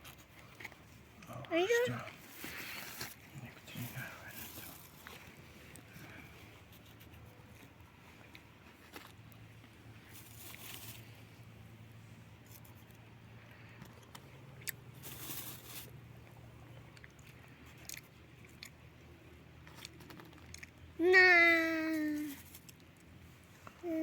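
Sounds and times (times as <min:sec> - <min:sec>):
crunching and chewing: 0:00.0 - 0:11.3, 0:12.4 - 0:21.0, 0:22.1 - 0:23.8.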